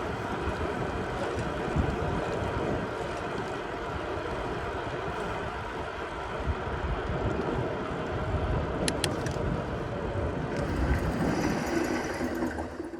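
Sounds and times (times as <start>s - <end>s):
bicycle tyre rumble: 0.0s - 12.9s
wind noise: 0.0s - 12.9s.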